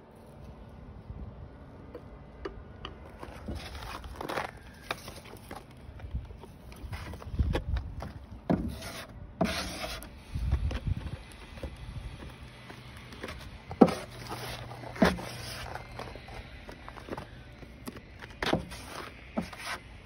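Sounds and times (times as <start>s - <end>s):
plastic spreader scraping: 3.2s - 19.9s.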